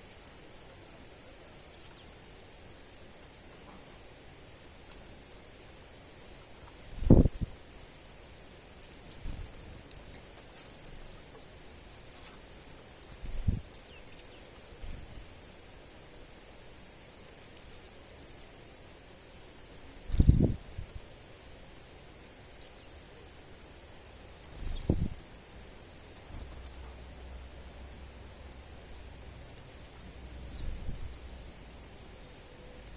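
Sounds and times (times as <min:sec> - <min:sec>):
small birds chirping: 0:00.0 - 0:21.3, 0:21.9 - 0:27.3, 0:29.0 - 0:32.9.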